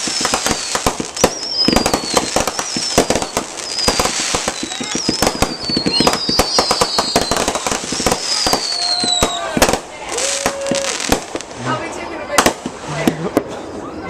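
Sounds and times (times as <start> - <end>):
fireworks whistles sliding down: 0.0 - 13.2
fireworks bangs and crackles: 0.0 - 14.0.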